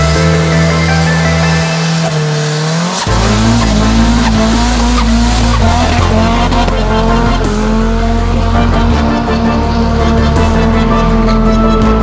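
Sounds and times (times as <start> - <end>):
music with bass line: 0.0 - 2.4, 3.0 - 12.0
car engine at high revs: 0.0 - 12.0
tyres spinning and squealing: 0.3 - 12.0.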